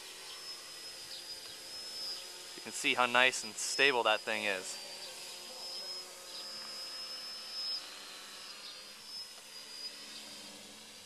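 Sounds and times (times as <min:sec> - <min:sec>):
drone propellers buzzing: 0:00.0 - 0:11.0
high steady whine: 0:00.0 - 0:11.0.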